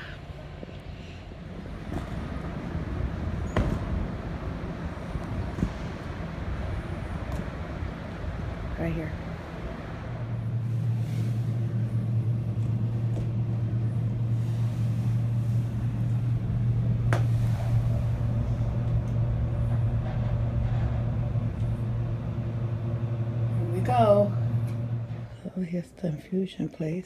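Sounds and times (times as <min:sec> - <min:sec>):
elevator cab hum: 0:00.0 - 0:27.0.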